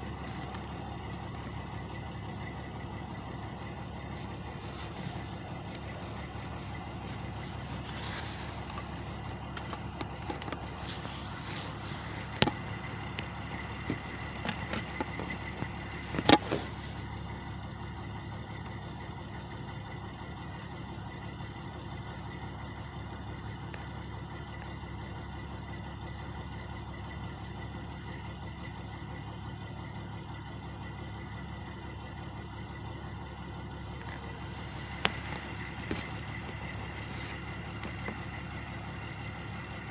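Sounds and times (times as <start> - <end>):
truck engines idling: 0.0 - 39.9.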